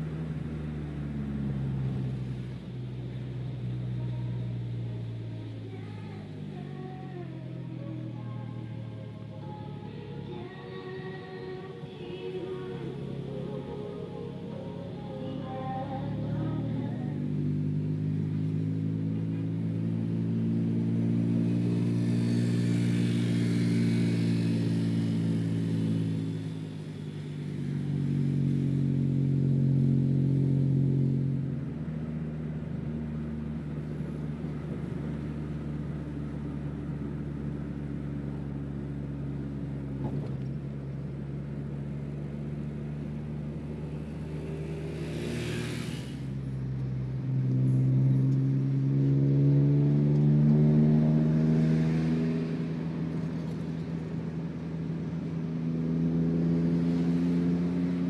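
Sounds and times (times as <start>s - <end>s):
car engine from inside cabin: 0.0s - 58.0s
passing vehicle whoosh: 0.0s - 58.0s.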